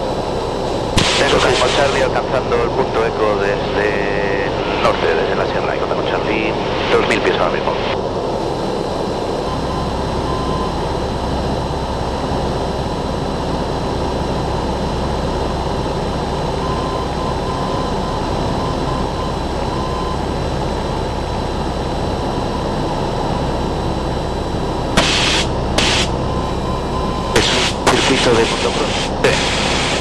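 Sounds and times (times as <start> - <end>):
aircraft engine and propeller drone: 0.0 - 30.0.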